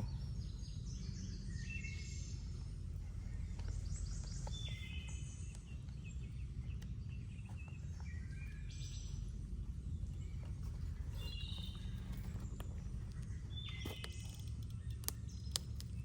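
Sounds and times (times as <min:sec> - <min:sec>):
birds singing high trills: 0:00.0 - 0:16.0
low outdoor rumble: 0:00.0 - 0:16.0.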